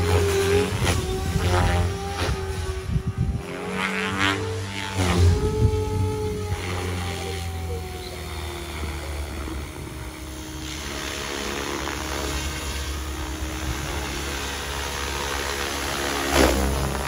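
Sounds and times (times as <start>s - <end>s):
rc helicopter rotor drone: 0.0s - 17.0s.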